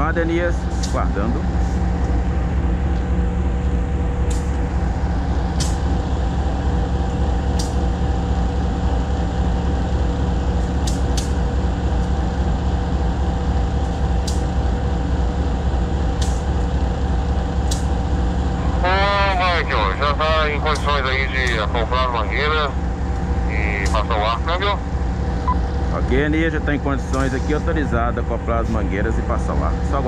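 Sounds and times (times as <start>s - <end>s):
locomotive engine idling: 0.0s - 30.0s.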